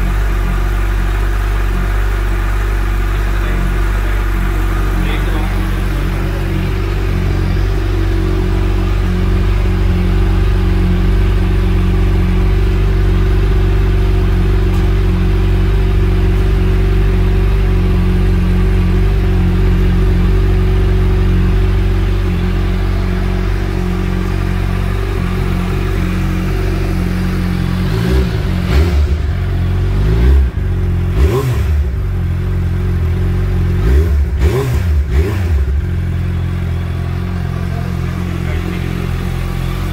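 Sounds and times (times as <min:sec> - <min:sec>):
engine throttle blips: 0:00.0 - 0:39.9
motorcycle engine idling: 0:00.0 - 0:39.9.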